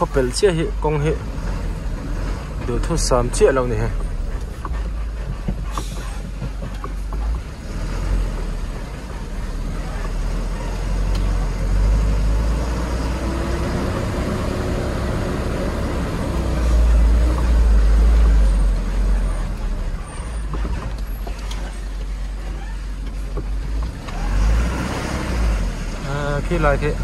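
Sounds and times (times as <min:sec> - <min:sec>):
engine and tyres rumbling: 0:00.0 - 0:27.0.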